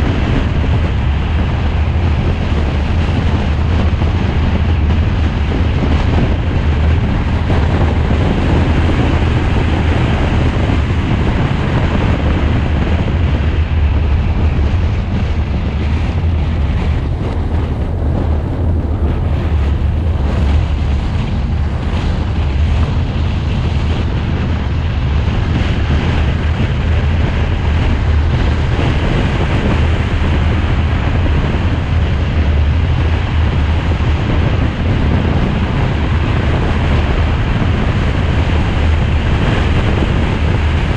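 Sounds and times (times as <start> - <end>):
road and engine rumble: 0.0 - 40.9
wind buffeting microphone: 0.0 - 40.9.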